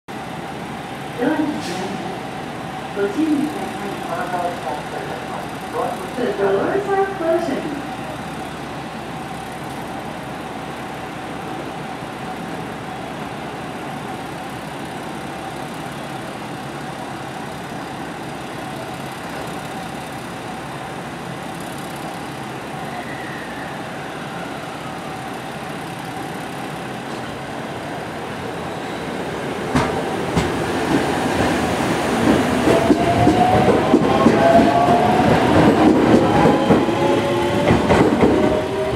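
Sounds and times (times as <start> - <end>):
electric train humming: 0.2 - 38.9.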